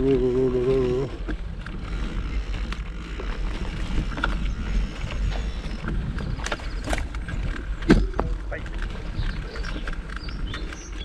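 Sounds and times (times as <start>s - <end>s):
bike clicks and rattles: 0.0s - 11.0s
mountain bike rumbling on trail: 0.0s - 11.0s.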